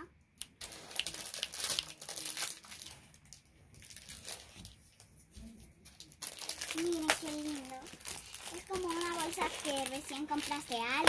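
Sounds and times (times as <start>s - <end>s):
plastic packaging crinkling: 0.6s - 5.2s, 5.8s - 11.0s.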